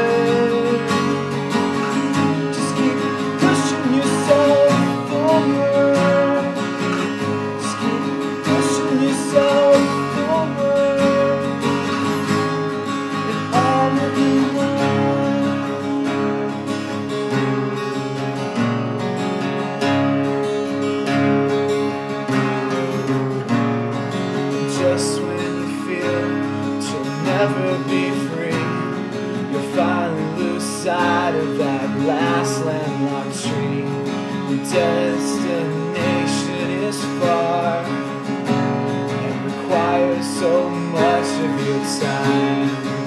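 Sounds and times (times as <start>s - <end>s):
acoustic guitars playing: 0.0s - 43.0s.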